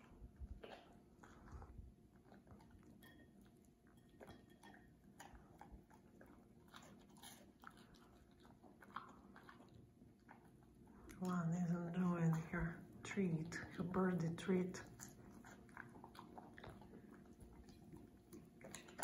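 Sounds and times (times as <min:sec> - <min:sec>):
dog chewing: 0:00.0 - 0:19.0.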